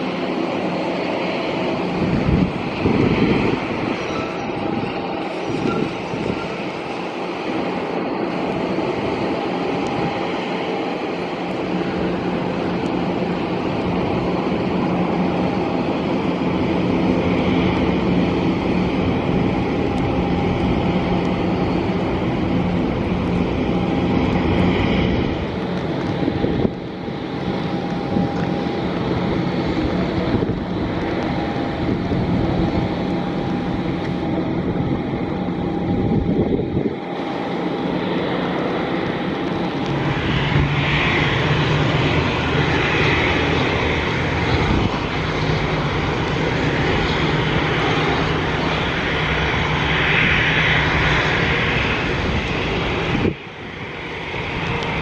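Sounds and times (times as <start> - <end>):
jet engines rushing with faint whine: 0.0 - 55.0.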